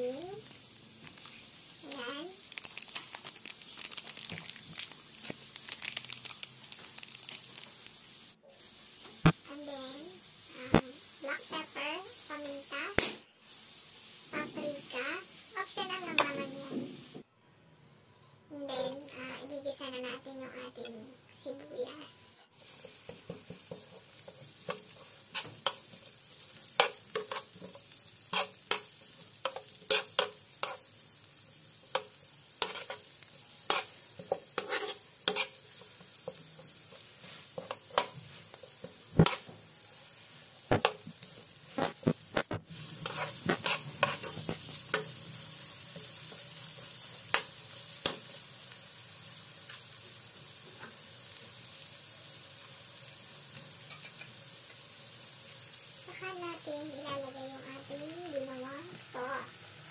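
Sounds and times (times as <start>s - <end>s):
onions sizzling in oil: 0.0s - 17.2s, 18.5s - 59.9s.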